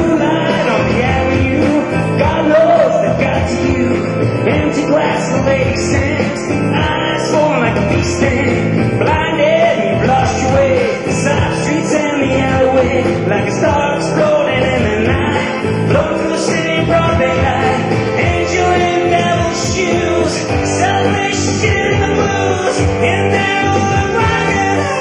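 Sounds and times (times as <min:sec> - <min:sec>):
live rock and roll band: 0:00.0 - 0:25.0.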